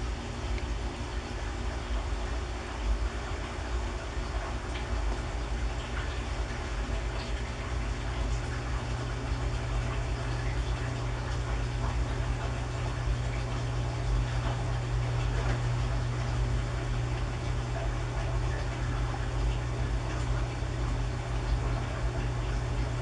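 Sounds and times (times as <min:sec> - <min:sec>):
low mechanical hum with rumble: 0:00.0 - 0:23.0.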